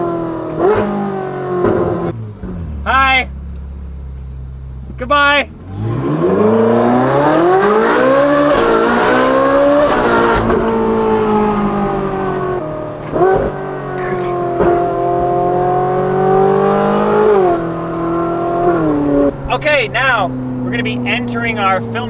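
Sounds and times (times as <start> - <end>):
car engine accelerating with shifts: 0.0 - 22.0.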